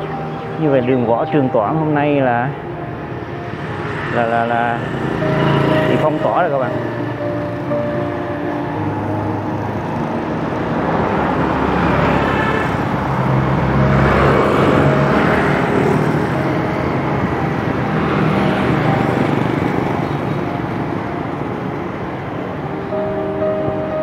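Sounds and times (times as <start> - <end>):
vehicles passing on street: 0.0 - 24.0.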